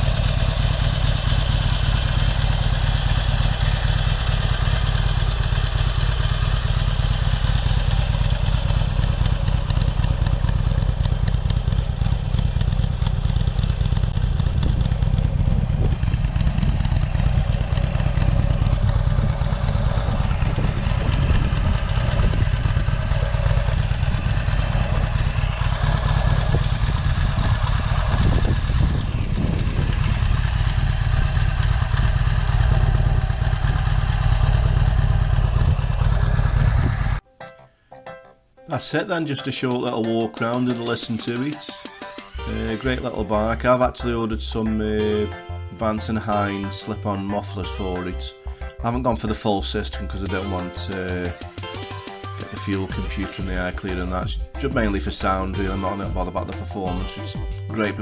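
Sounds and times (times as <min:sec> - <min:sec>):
motorcycle engine idling: 0:00.0 - 0:37.2, 0:47.4 - 0:58.0.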